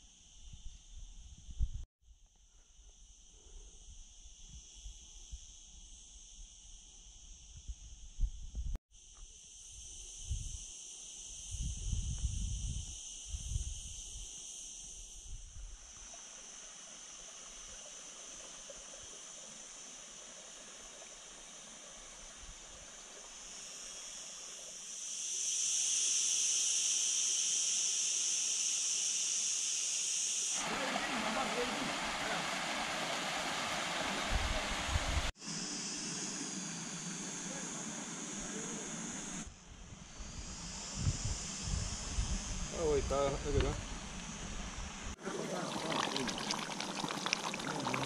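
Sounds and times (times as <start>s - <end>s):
insects chirring: 0.0s - 48.0s
broad hiss: 9.0s - 48.0s.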